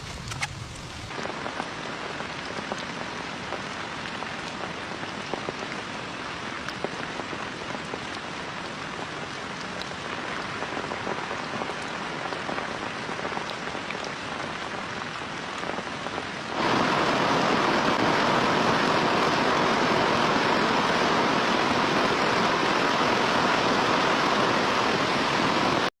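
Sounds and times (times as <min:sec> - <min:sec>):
heavy rain falling: 0:00.0 - 0:25.9
raindrops ticking on a surface: 0:00.7 - 0:25.9.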